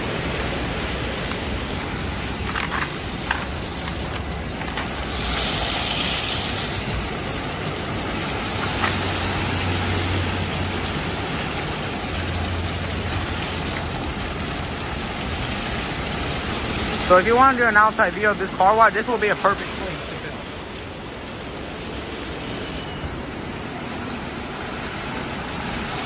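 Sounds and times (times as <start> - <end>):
car wash brushes and water spray: 0.0 - 26.0.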